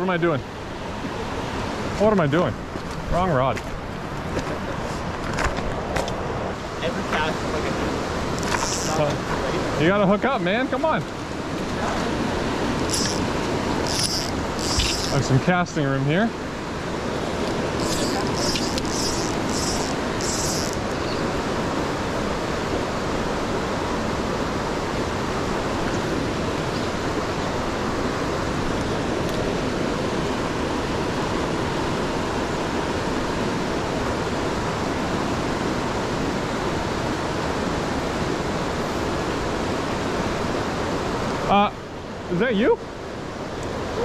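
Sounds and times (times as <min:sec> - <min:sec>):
river rushing through rapids: 0:03.8 - 0:44.0.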